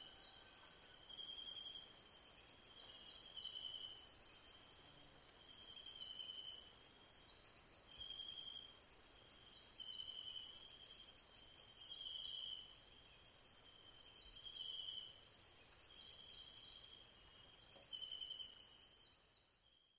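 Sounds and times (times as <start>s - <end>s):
lower insect chirp: 0.0s - 19.9s.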